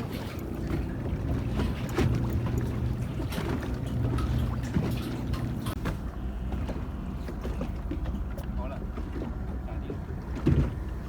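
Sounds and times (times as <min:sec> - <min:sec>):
boat engine running: 0:00.0 - 0:11.0
water splashing and sloshing: 0:00.0 - 0:11.0.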